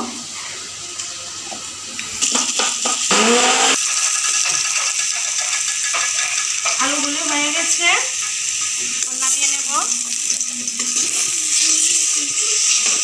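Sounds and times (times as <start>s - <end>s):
potatoes sizzling in hot oil: 1.7s - 13.0s.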